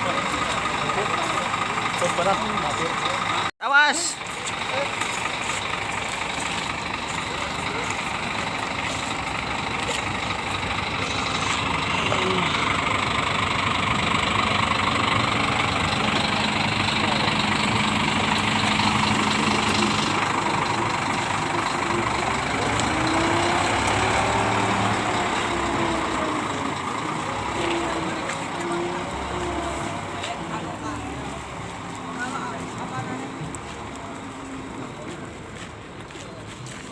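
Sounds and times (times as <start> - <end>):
bus diesel engine running: 0.0 - 36.9.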